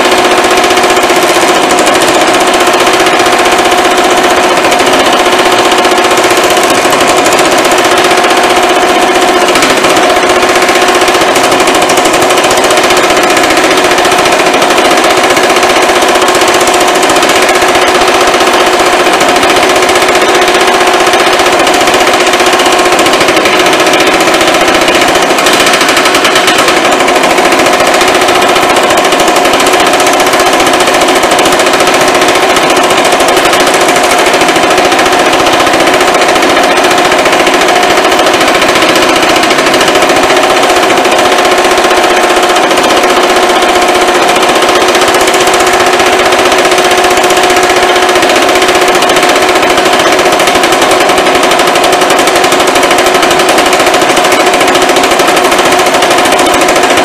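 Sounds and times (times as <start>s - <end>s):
power hammer rattling: 0.0s - 57.0s.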